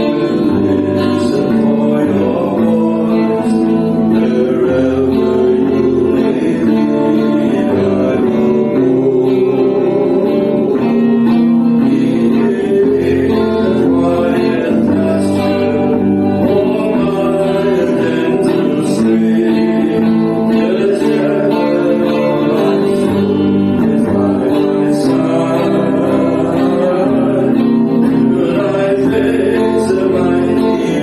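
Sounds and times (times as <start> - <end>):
guitar accompaniment: 0.0 - 31.0
person singing: 0.0 - 31.0.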